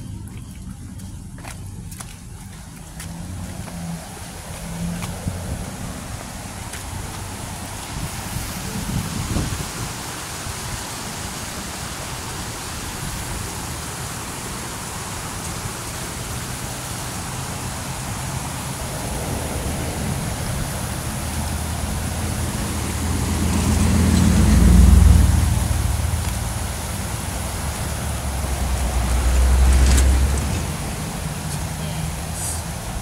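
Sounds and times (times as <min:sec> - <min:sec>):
vehicle passing with low rumble: 0:00.0 - 0:33.0
water rushing through channel: 0:00.0 - 0:33.0.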